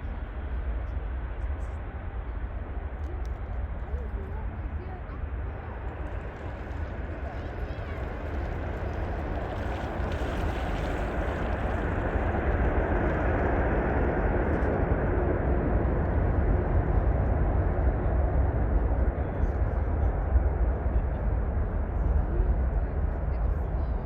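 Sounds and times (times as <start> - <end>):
jet engines rumbling on takeoff: 0.0 - 24.0.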